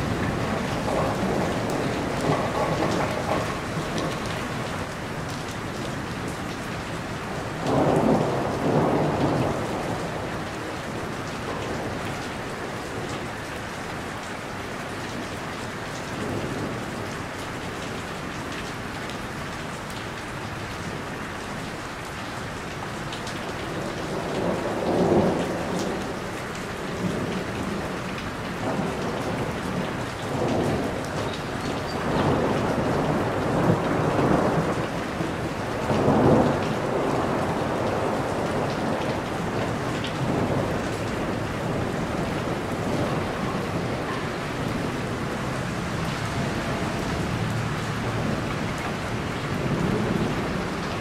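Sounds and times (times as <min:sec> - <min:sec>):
heavy rain on a roof: 0:00.0 - 0:51.0.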